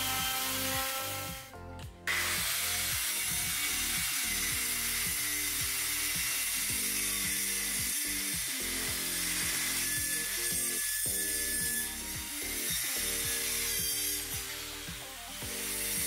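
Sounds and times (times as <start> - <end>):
circular saw cutting wood: 0.0 - 16.0.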